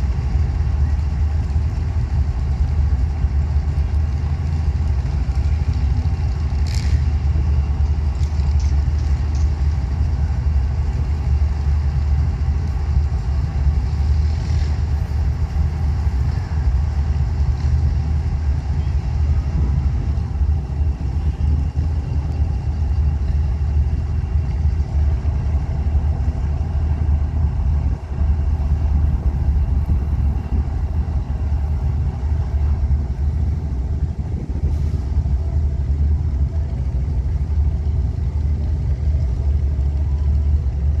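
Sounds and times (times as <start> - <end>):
diesel locomotive idling: 0.0 - 41.0.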